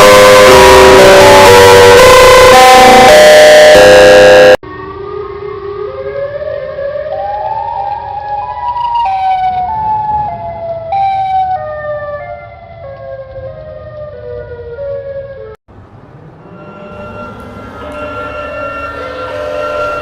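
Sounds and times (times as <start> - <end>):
stepped siren tone: 0.0 - 15.5, 16.2 - 20.0.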